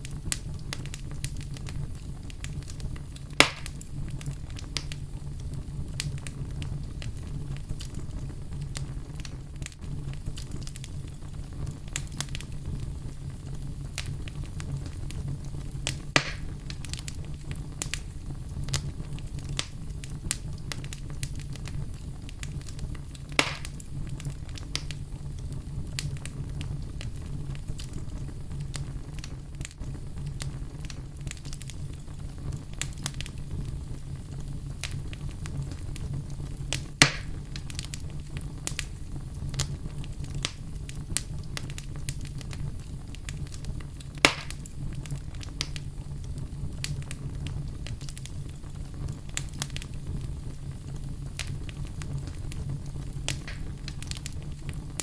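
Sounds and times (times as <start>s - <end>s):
sharp pops of burning wood: 0.0s - 13.1s, 13.8s - 25.0s, 26.0s - 55.0s
wood fire crackling: 0.0s - 55.0s.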